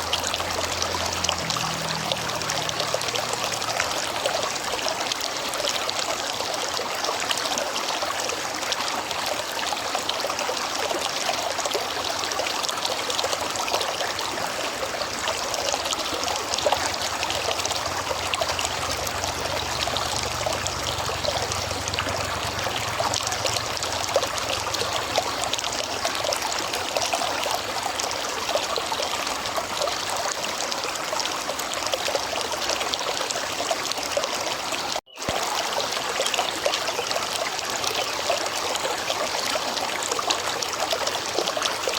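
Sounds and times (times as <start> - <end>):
river water rushing: 0.0 - 41.9.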